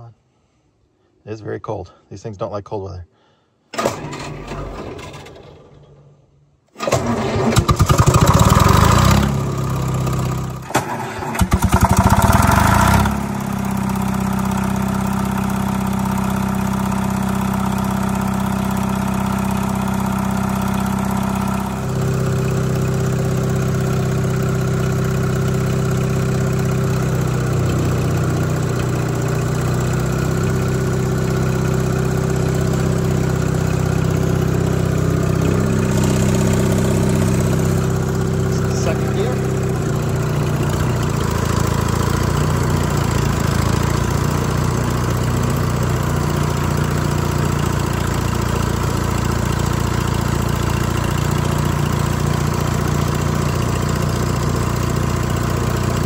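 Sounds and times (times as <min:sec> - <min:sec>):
diesel engine cranking and starting: 0:03.7 - 0:56.0
diesel engine running: 0:06.8 - 0:56.0.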